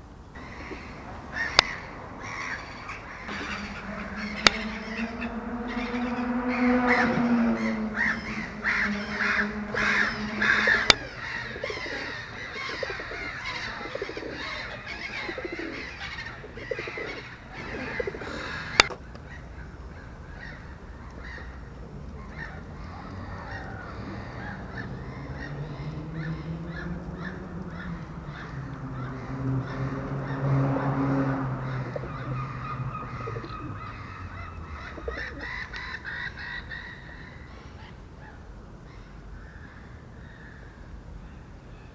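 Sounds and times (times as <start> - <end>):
birds calling harshly: 0.0 - 41.9
low steady bird call: 0.0 - 41.9.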